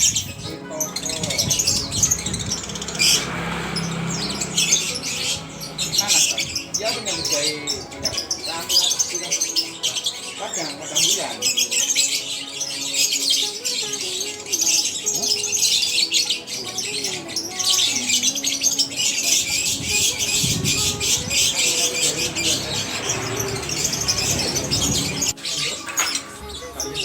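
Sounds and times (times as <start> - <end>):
birds chirping and squawking: 0.0 - 27.0.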